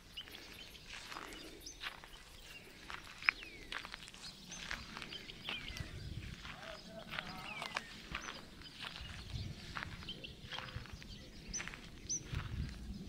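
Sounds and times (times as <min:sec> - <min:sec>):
birds chirping: 0:00.0 - 0:13.0
footsteps on dry grass: 0:00.0 - 0:13.0.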